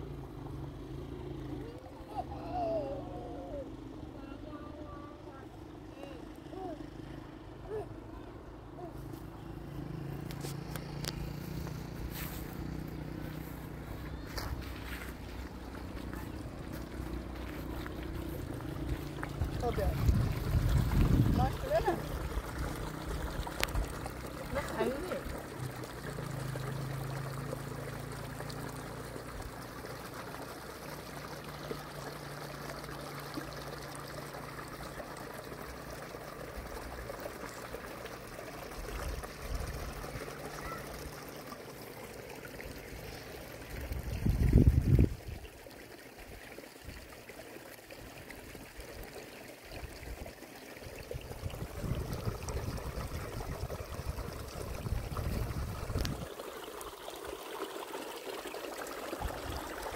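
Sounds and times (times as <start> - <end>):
water trickling: 0.0 - 59.9.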